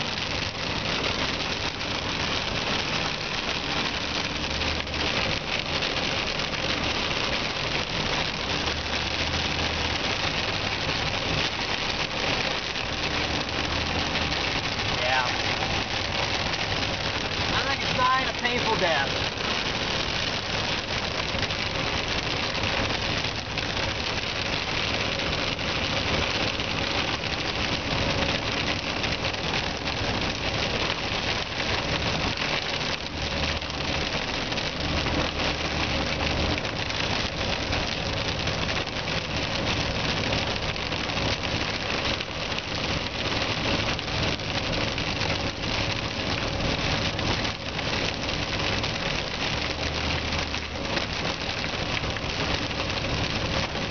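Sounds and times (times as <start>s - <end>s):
engine and road hum: 0.0s - 53.9s
heavy rain on car windshield: 0.0s - 53.9s.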